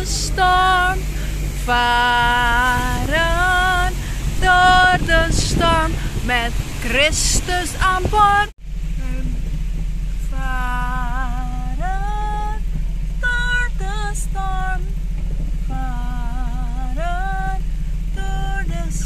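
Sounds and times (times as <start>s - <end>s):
woman singing: 0.0s - 9.5s, 10.2s - 15.0s, 15.7s - 19.0s
car cabin rumble: 0.0s - 19.0s.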